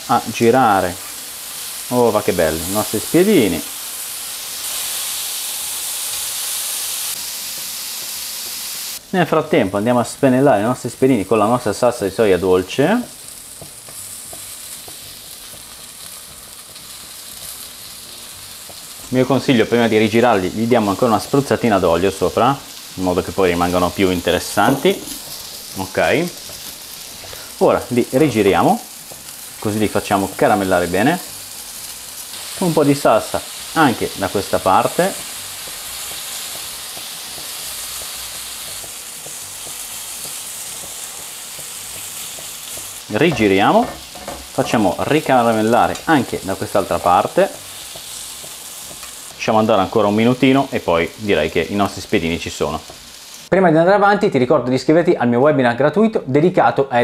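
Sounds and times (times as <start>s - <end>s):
skewers sizzling on a grill: 0.0s - 53.6s.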